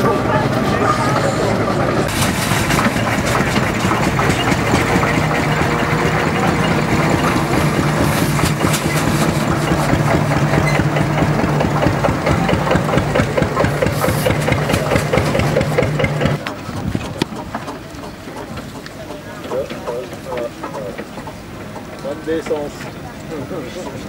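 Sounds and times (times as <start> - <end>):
steam engine gearing clattering: 0.5 - 24.0.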